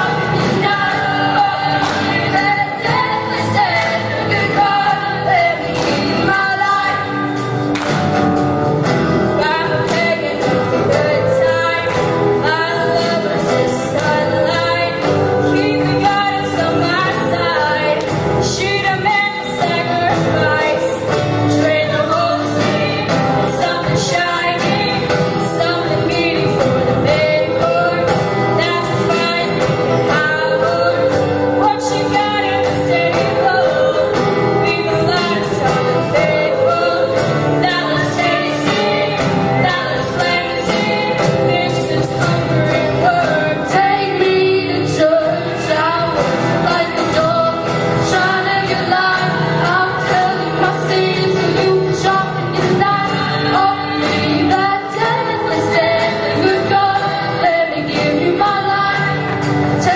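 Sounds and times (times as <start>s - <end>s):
choir singing: 0.0s - 7.7s, 9.0s - 59.9s
drums keeping steady beat: 0.0s - 59.9s
live band playing: 0.0s - 59.9s.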